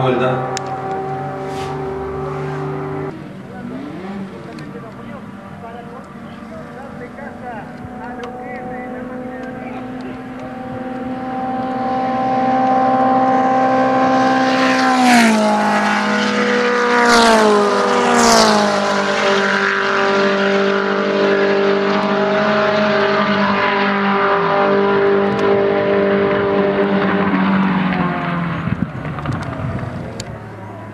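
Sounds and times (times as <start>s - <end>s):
race car engines running: 0.0s - 30.9s
race cars passing by: 0.0s - 30.9s.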